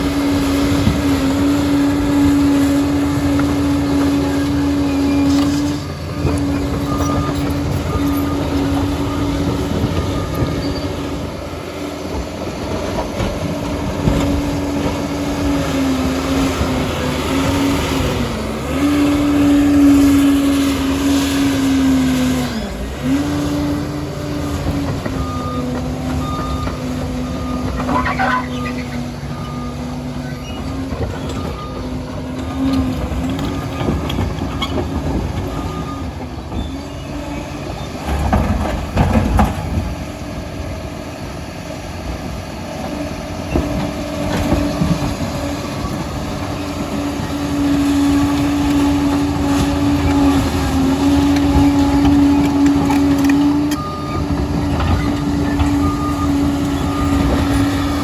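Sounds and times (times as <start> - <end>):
dozer diesel engine running: 0.0 - 58.0
track clatter: 0.0 - 58.0.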